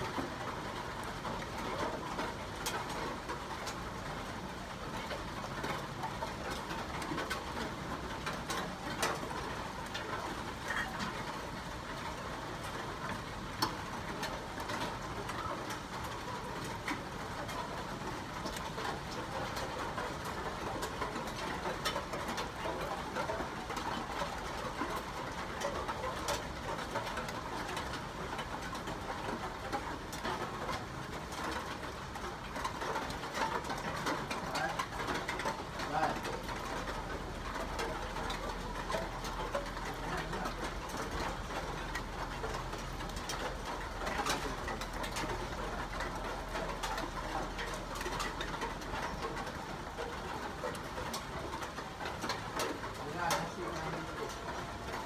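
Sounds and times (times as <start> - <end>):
steady rain hiss: 0.0 - 55.0
sharp drips and taps: 5.0 - 55.0.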